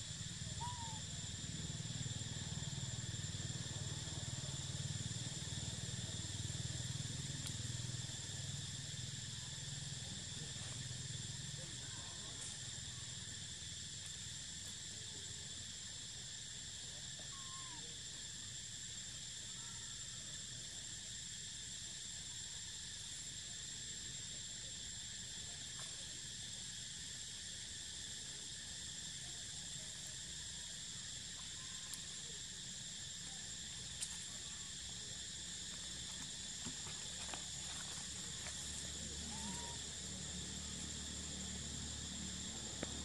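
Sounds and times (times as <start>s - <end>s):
high-pitched insect chorus: 0.0s - 43.0s.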